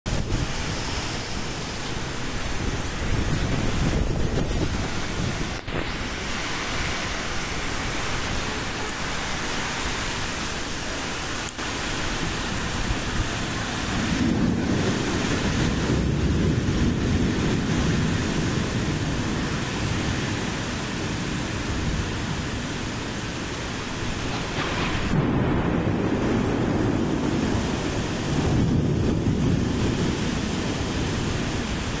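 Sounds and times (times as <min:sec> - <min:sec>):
heavy rain: 0:00.0 - 0:32.0
wind buffeting microphone: 0:00.1 - 0:32.0.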